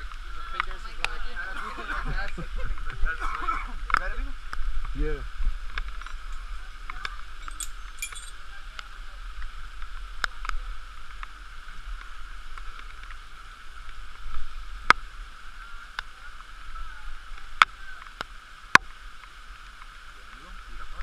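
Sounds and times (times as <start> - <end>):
muffled stream water rushing: 0.0 - 21.0.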